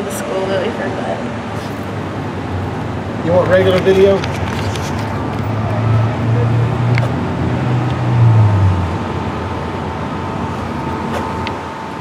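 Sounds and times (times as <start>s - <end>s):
faint steady whine: 0.0s - 12.0s.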